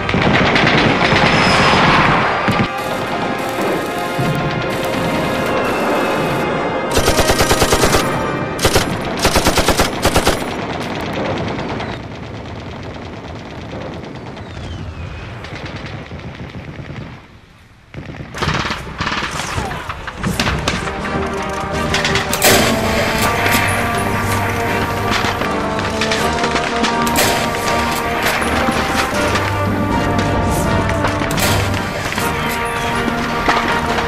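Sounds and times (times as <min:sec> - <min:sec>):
machine-gun fire: 0:00.0 - 0:17.3, 0:17.9 - 0:34.0.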